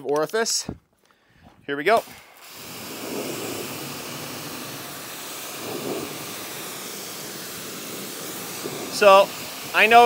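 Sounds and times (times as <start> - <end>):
pressure washer spraying: 1.9 - 10.0.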